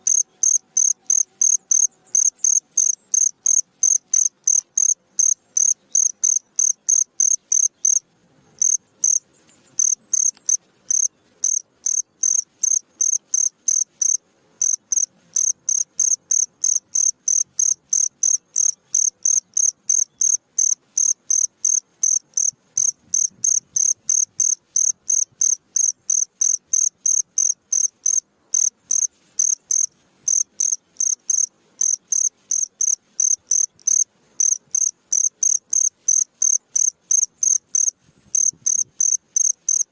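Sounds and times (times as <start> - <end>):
cricket chirping: 0.0 - 8.0, 8.6 - 39.9.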